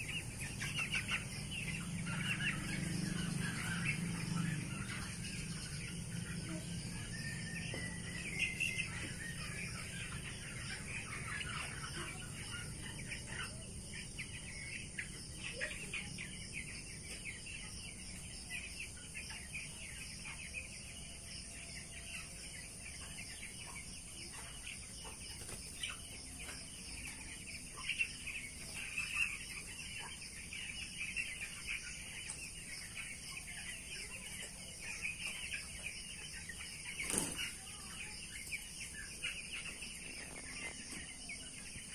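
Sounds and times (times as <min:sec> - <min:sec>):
chicks peeping and chirping: 0:00.0 - 0:41.9.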